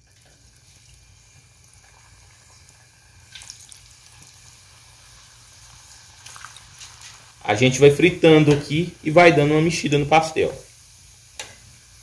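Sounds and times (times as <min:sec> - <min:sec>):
food sizzling in lard: 0:00.0 - 0:12.0
frying crackles: 0:00.0 - 0:12.0.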